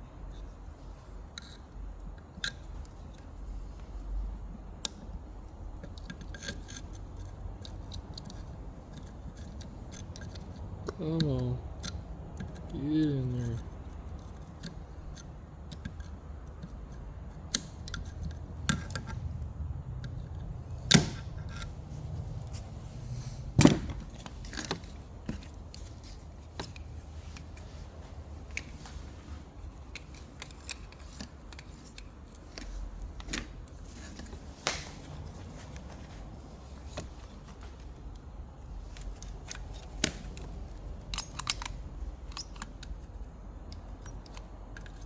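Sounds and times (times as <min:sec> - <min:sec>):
low steady hum: 0:00.0 - 0:45.0
metal parts clicking and knocking: 0:01.3 - 0:03.9, 0:04.7 - 0:12.7, 0:13.3 - 0:22.6, 0:23.5 - 0:27.8, 0:28.4 - 0:35.9, 0:36.8 - 0:45.0.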